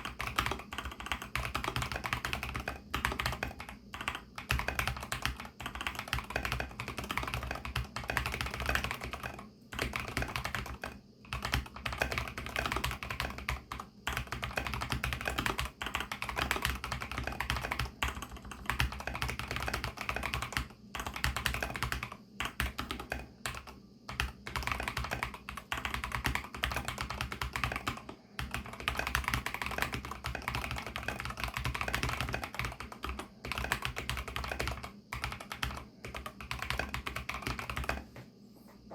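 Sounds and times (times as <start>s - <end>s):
fast mechanical keyboard typing: 0.0s - 38.0s.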